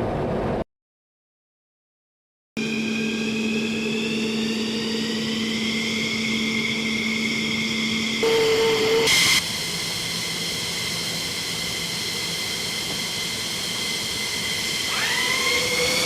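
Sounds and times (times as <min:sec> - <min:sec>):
high turbine whine: 0:02.6 - 0:16.0
jet engines humming: 0:02.6 - 0:16.0.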